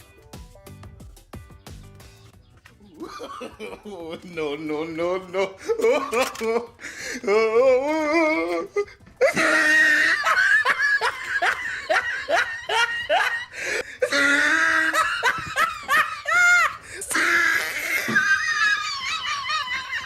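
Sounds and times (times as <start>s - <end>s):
person laughing heartily: 2.8s - 20.0s.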